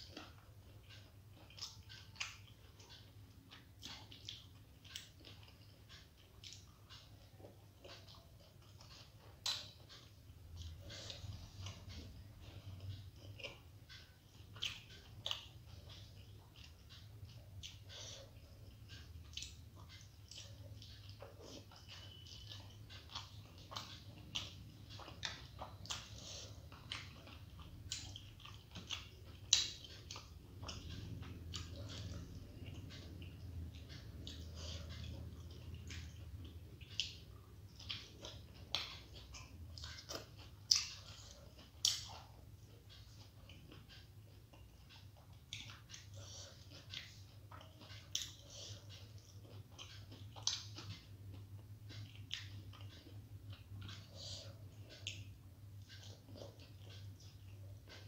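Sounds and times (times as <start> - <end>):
low steady hum: 0.0 - 58.0
wet chewing smacks: 0.0 - 58.0.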